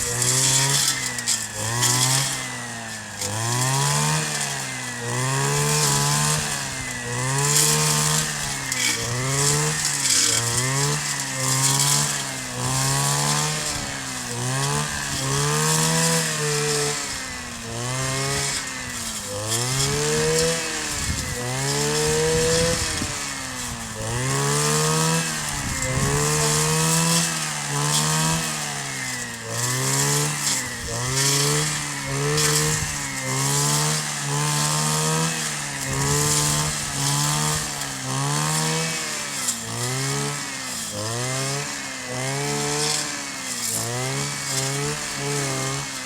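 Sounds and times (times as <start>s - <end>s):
brush cutter engine revving: 0.0s - 46.0s.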